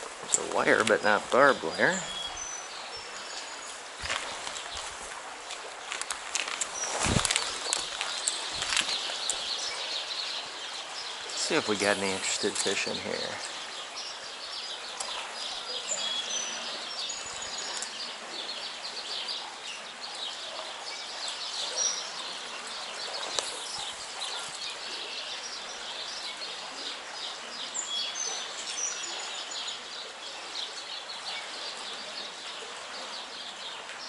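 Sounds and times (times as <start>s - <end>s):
small birds chirping: 0.0s - 34.0s
stream water rushing: 0.0s - 34.0s.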